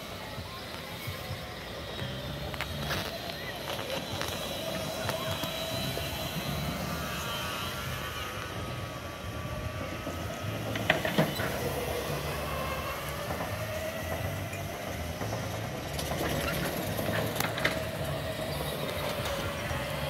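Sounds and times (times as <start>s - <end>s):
go-kart motors whining: 0.0s - 20.0s.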